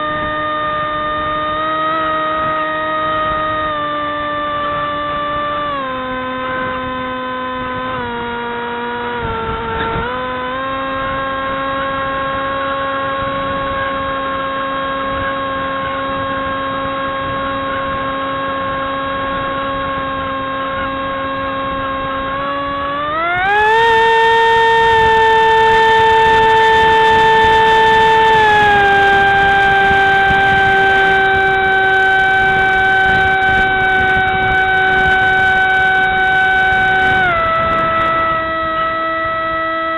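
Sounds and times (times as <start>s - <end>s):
model aircraft motor whine: 0.0s - 39.9s.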